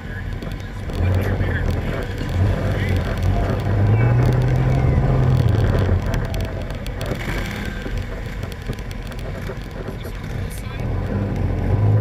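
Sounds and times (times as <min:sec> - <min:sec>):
utv engine revving: 0:00.0 - 0:12.0
vehicle rattling and clicking: 0:00.0 - 0:12.0.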